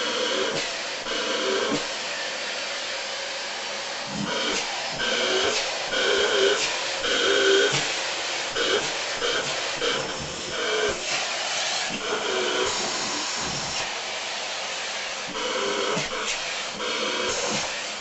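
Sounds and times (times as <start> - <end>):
vacuum cleaner suction rush: 0.0 - 18.0.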